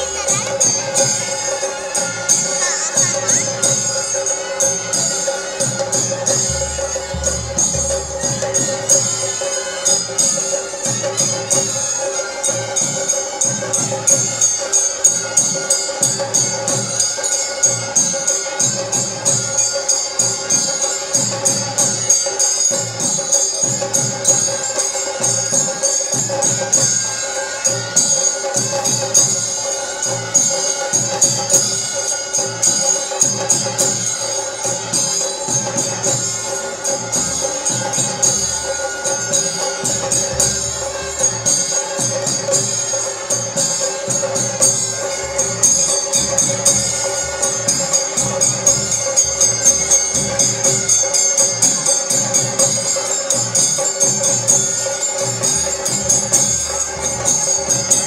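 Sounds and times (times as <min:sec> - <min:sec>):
drum beat: 0:00.0 - 0:27.2, 0:27.8 - 0:58.0
jingling cymbal strikes: 0:00.0 - 0:58.0.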